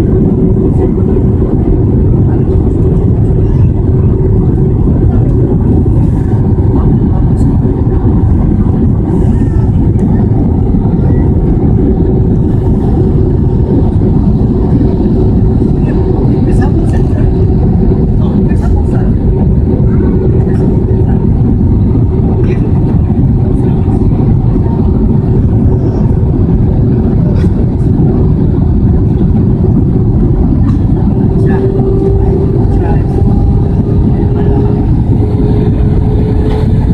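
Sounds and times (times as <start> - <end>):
airliner cabin rumble: 0.0 - 36.9.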